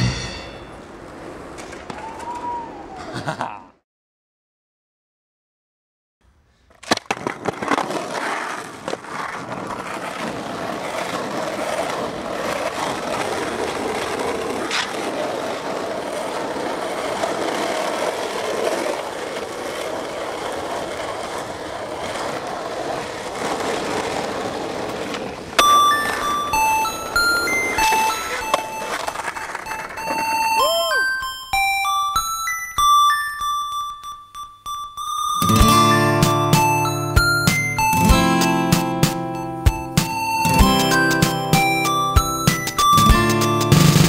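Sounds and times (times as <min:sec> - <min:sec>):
skateboard wheels rolling on pavement: 0:00.6 - 0:03.0, 0:06.2 - 0:44.0.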